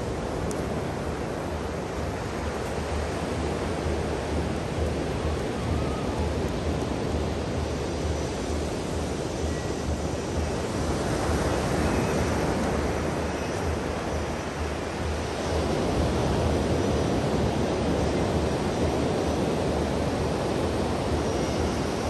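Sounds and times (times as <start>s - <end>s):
surf washing up a beach: 0.0s - 22.0s.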